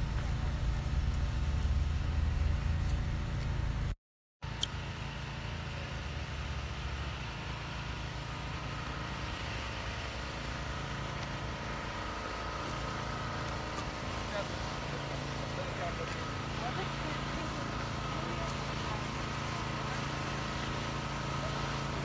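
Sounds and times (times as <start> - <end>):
low outdoor background rumble: 0.0 - 22.0.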